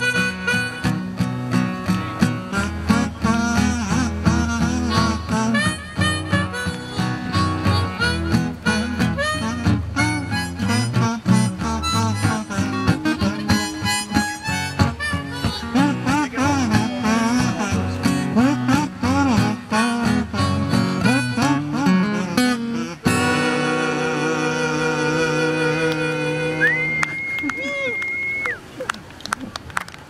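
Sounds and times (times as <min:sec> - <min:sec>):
kazoo melody: 0:00.0 - 0:01.6, 0:02.3 - 0:27.1
strummed acoustic guitar: 0:00.0 - 0:26.9.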